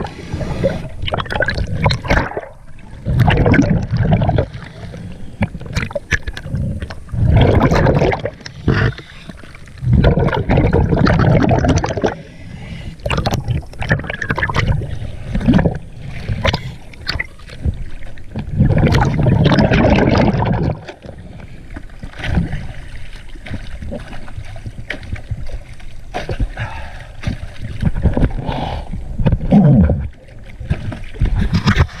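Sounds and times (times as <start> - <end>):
sea water sloshing and splashing: 0.0 - 32.0.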